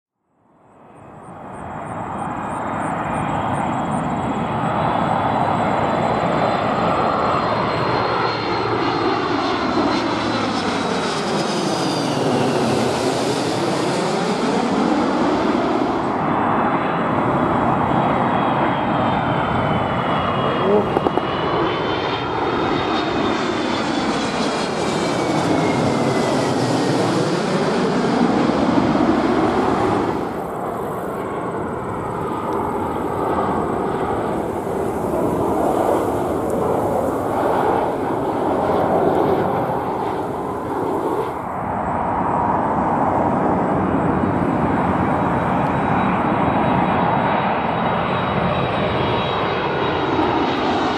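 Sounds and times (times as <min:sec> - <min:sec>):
quieter jet airliner approaching: 0:00.2 - 0:50.9
jet airliner passing overhead: 0:00.4 - 0:50.9.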